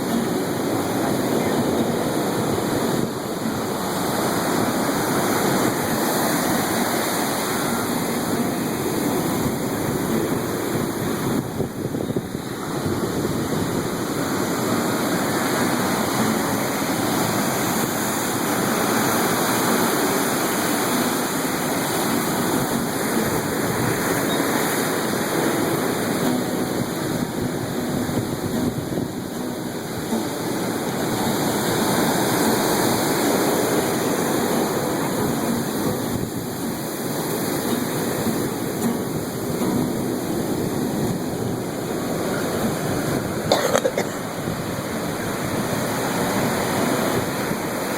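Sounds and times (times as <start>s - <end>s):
ocean surf breaking: 0.0s - 47.9s.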